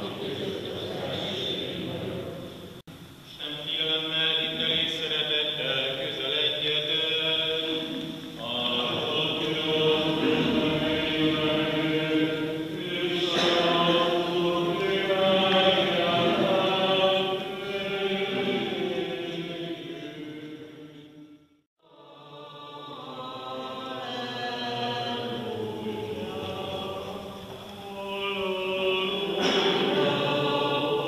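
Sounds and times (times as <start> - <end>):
voices singing a liturgical chant: 0.0 - 2.8, 3.4 - 31.0.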